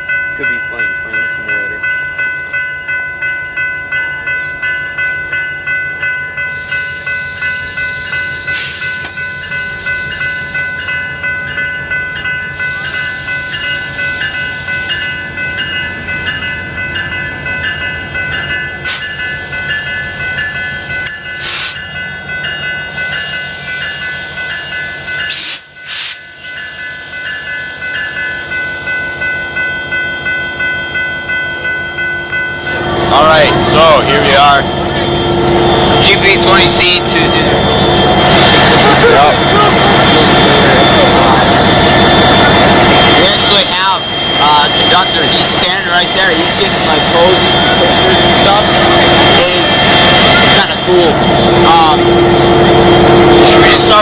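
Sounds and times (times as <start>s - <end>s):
railroad crossing bell ringing: 0.0s - 54.0s.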